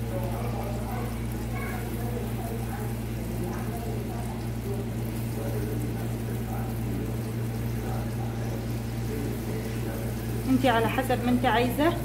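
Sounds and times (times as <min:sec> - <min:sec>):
batter sizzling in hot oil: 0:00.0 - 0:12.0.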